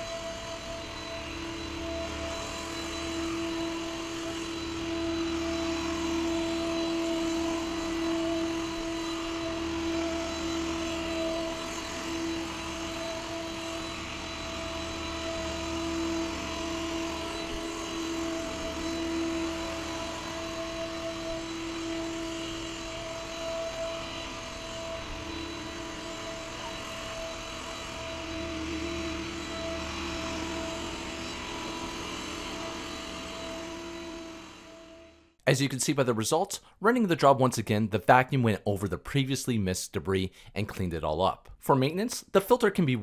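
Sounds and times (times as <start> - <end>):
robot vacuum motor whirring: 0.0 - 35.3.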